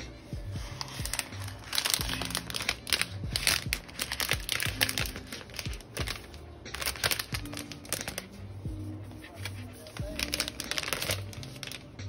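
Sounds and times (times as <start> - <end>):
plastic sheet crinkling: 0.0 - 12.0
soft background music with beat: 0.0 - 12.0.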